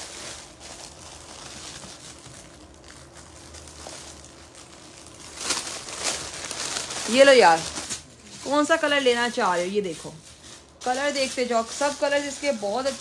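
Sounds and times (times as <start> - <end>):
low steady hum: 0.0 - 13.0
rustling of wool shawls: 0.0 - 13.0.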